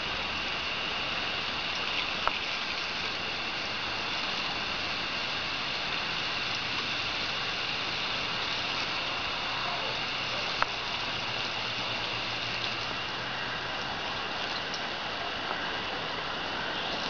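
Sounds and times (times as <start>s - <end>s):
water running from a hose: 0.0s - 17.0s.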